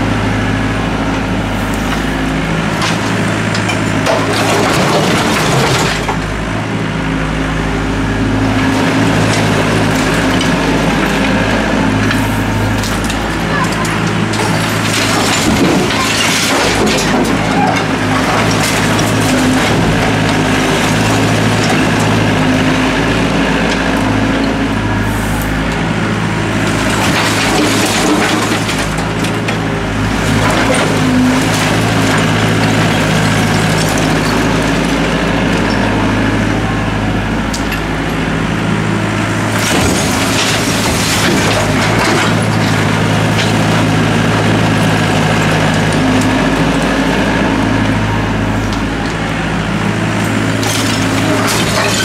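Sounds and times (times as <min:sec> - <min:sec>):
excavator diesel engine running: 0:00.0 - 0:52.0
rubble crashing: 0:01.9 - 0:06.5, 0:08.4 - 0:23.9, 0:26.4 - 0:35.9, 0:39.1 - 0:52.0.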